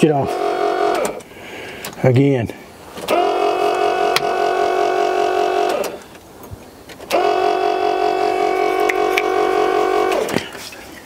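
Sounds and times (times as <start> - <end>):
starter motor cranking: 0.0 - 2.0, 2.9 - 6.2, 6.9 - 10.6.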